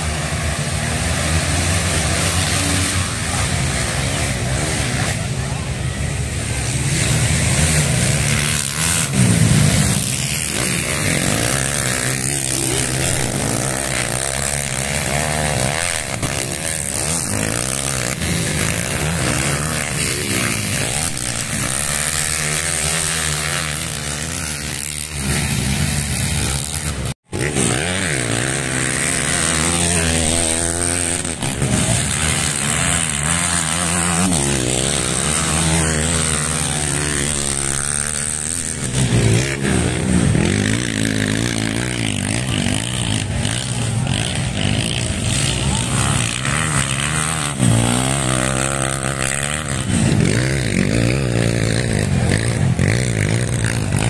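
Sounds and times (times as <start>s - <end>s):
racing motorcycle engines revving: 0.0s - 54.0s.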